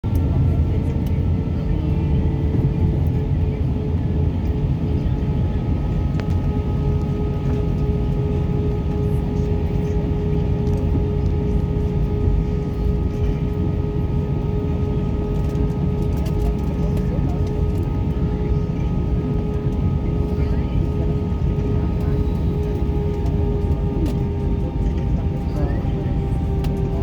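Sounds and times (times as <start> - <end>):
airliner cabin rumble: 0.0 - 27.0
constant engine hum: 0.0 - 27.0.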